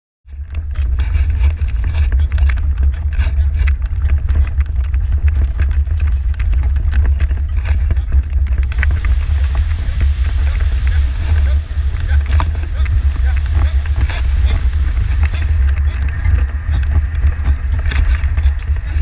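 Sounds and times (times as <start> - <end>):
carriage heavy low rumble: 0.3 - 19.0.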